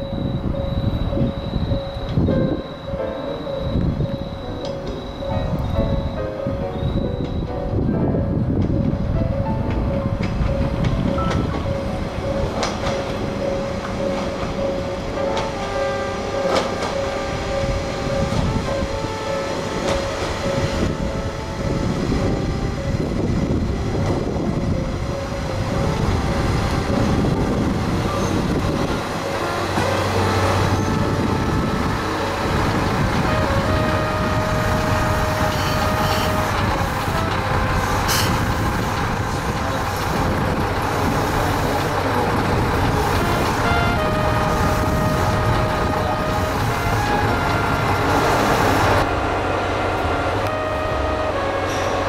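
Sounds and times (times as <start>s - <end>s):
diesel railcar rumble: 0.0s - 52.0s.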